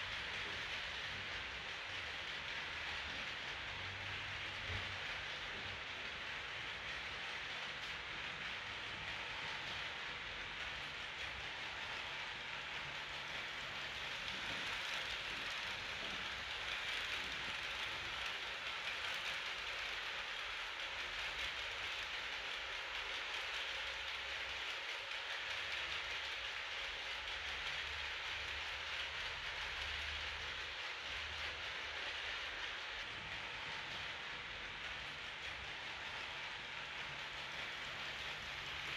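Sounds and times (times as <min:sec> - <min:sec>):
model train wheels hissing on rails: 0:00.0 - 0:38.9.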